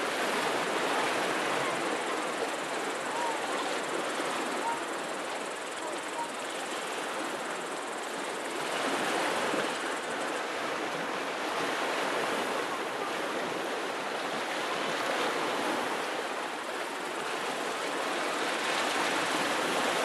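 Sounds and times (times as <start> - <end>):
small waves washing on shore: 0.0 - 20.0.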